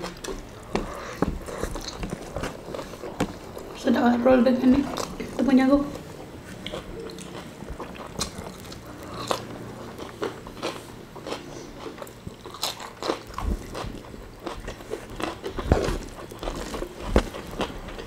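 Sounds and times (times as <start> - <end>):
people chewing fried food: 0.0 - 3.8, 4.6 - 18.0.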